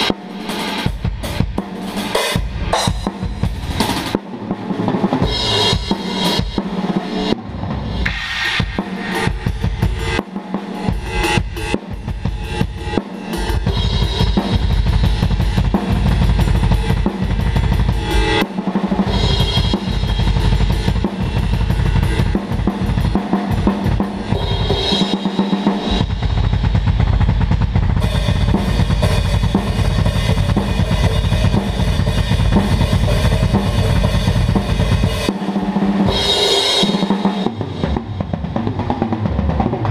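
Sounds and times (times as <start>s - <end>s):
acoustic drum kit groove: 0.0s - 39.9s.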